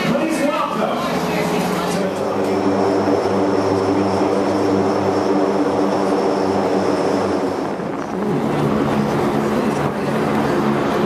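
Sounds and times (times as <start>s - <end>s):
aircraft engine drone: 0.0s - 11.0s
thin high whine: 0.0s - 11.0s.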